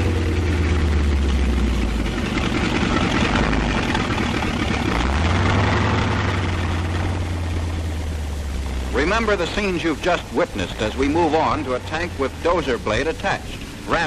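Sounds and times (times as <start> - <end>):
tank engine droning: 0.0 - 14.0.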